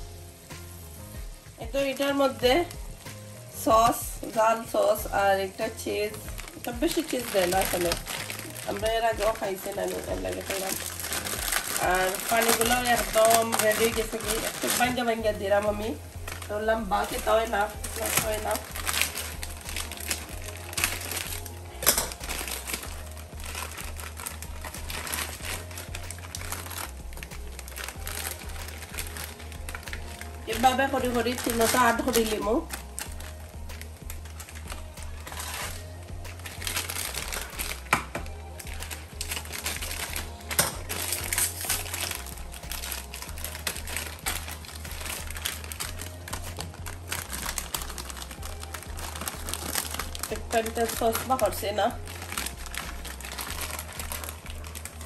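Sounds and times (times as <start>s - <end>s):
background music: 0.0s - 55.0s
plastic packet crinkling: 3.8s - 55.0s.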